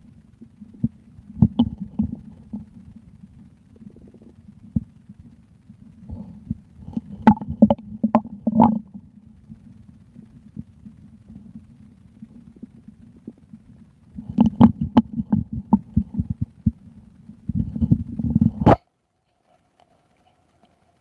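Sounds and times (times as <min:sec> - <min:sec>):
stomach growling: 0:00.0 - 0:18.9.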